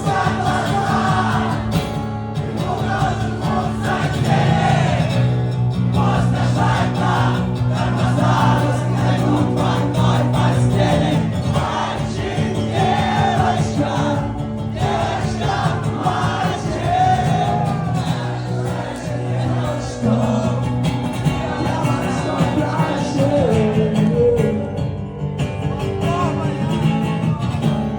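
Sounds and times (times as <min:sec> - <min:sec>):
people singing: 0:00.0 - 0:24.9
crowd voices: 0:00.0 - 0:27.9
strummed acoustic guitar: 0:00.0 - 0:27.9.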